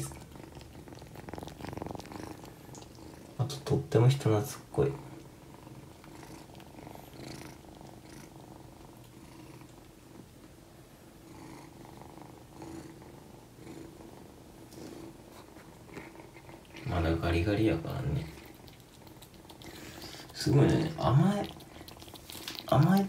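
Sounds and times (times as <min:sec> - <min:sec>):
kitten purring: 0:00.0 - 0:23.0.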